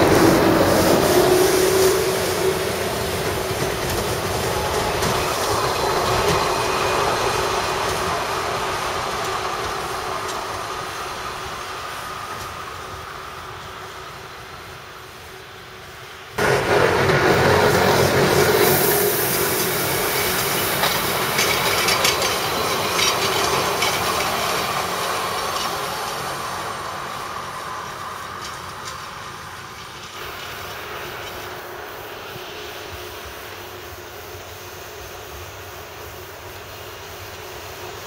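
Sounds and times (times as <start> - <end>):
close train: 0.0 - 38.0
diesel railcar engine and wheels: 0.0 - 38.0.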